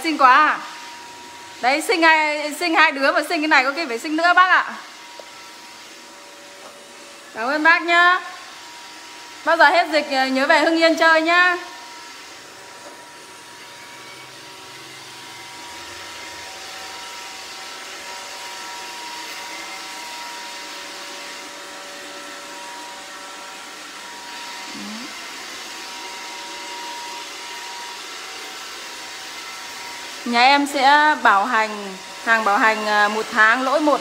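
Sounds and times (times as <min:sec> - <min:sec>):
robot vacuum whirring: 0:00.0 - 0:34.0.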